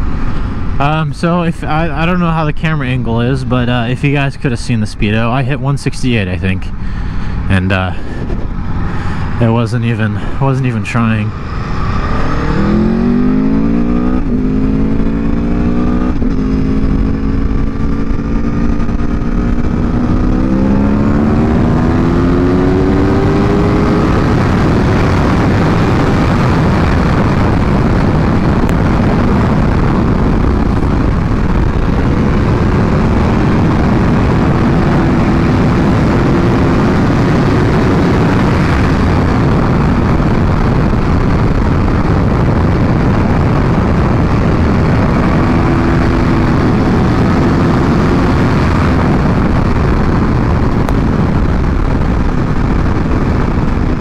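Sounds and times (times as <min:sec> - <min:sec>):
wind rush: 0:00.0 - 0:03.8, 0:06.1 - 0:54.0
motorcycle engine accelerating: 0:06.8 - 0:54.0.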